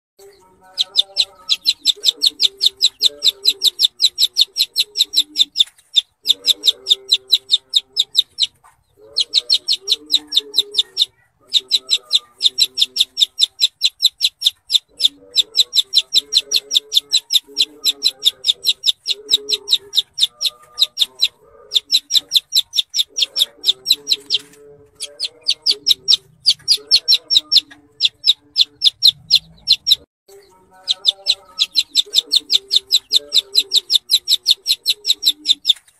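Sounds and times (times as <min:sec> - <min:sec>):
bird singing sharp high notes: 0:00.2 - 0:35.9.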